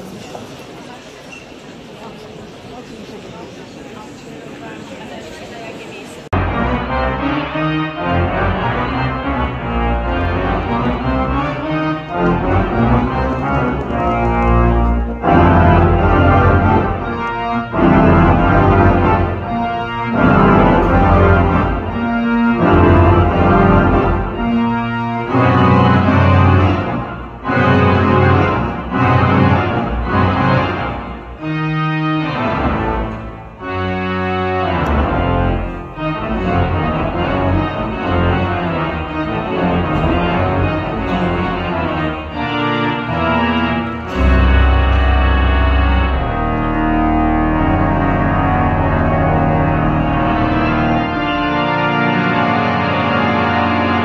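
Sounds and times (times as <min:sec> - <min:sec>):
pipe organ playing chords: 0:06.3 - 0:54.0.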